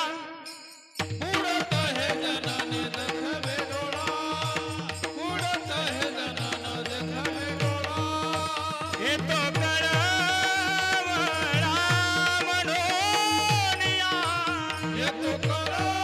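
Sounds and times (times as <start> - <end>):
ornamented singing voice: 0.0 - 16.0.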